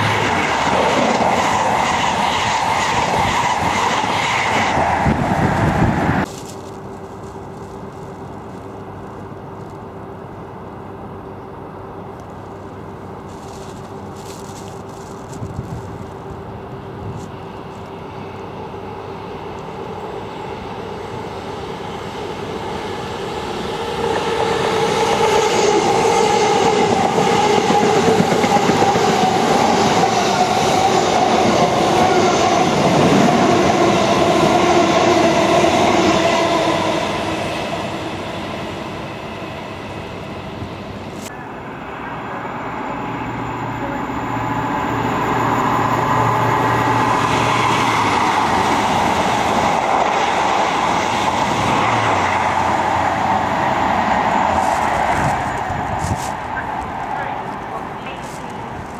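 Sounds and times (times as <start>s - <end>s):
passenger train passing: 0.0s - 58.9s
train approaching: 0.0s - 58.9s.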